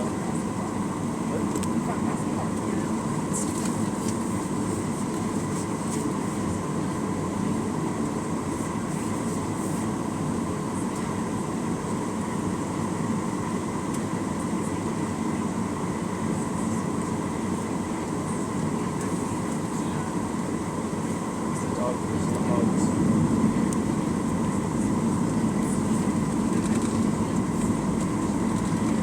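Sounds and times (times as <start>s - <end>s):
airplane cabin drone: 0.0s - 29.0s
faint steady whine: 0.0s - 29.0s
jet engines rumbling with airflow hiss: 0.0s - 29.0s.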